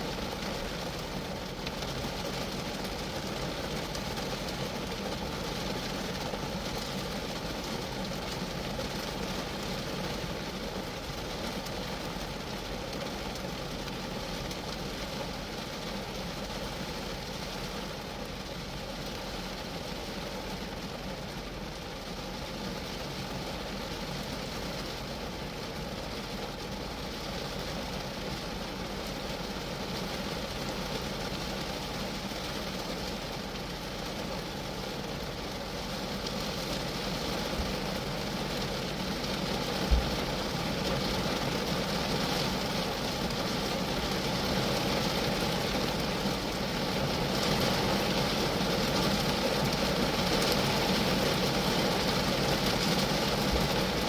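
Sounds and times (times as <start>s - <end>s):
rain on a car roof: 0.0s - 54.0s.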